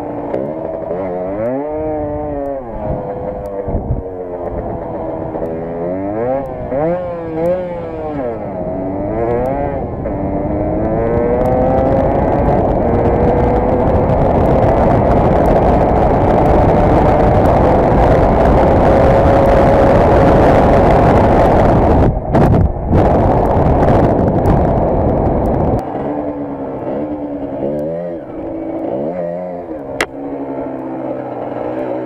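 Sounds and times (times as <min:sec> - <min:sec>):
motorcycle engine: 0:00.0 - 0:32.0
wind and road noise: 0:00.0 - 0:32.0.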